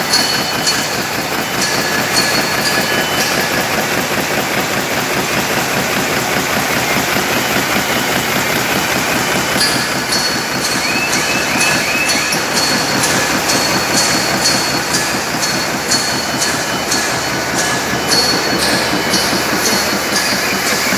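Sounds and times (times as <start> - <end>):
bag-making machine clattering: 0.0 - 20.9.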